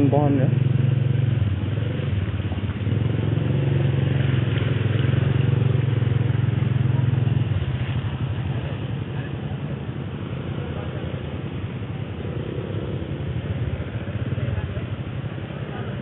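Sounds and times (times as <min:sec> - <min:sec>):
small petrol engine running: 0:00.0 - 0:16.0.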